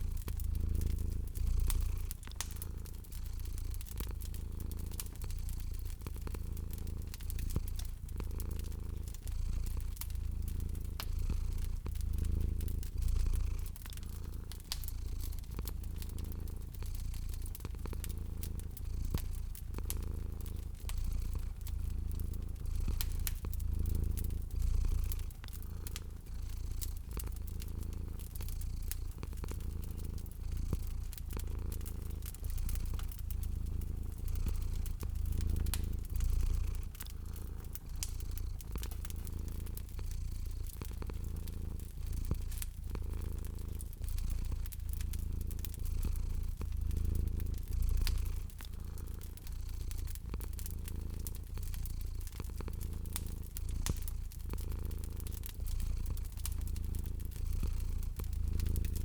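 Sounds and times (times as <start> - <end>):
cat purring: 0.0 - 59.0
wood fire crackling: 0.0 - 59.0.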